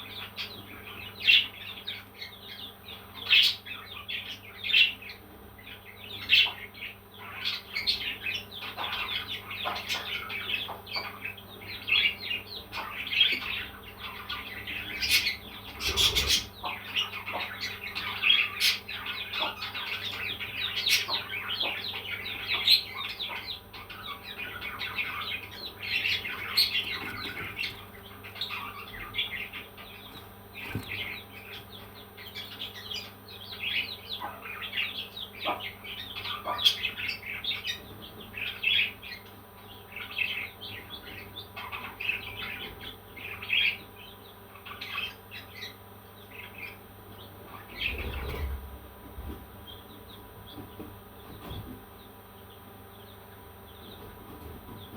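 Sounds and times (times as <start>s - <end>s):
parrots chirping and chattering: 0.0s - 54.9s.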